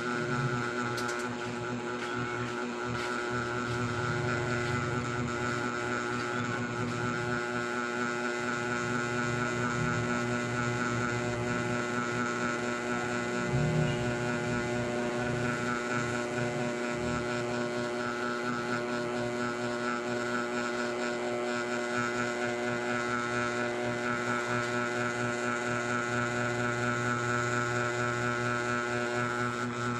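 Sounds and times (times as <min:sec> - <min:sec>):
ceiling fan humming: 0:00.0 - 0:29.9.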